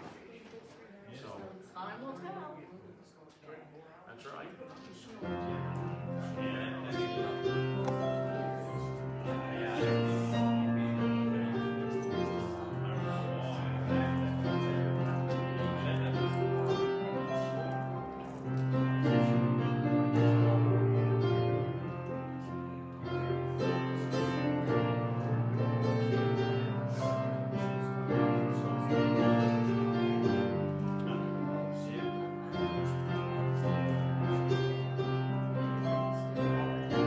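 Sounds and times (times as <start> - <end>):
slow piano-like keyboard music: 5.3 - 37.0.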